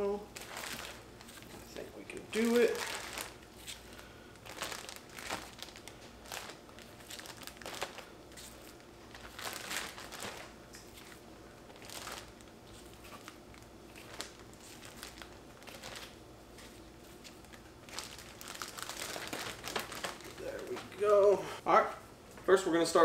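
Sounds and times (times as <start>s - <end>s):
plastic bag crinkling: 0.2s - 21.2s.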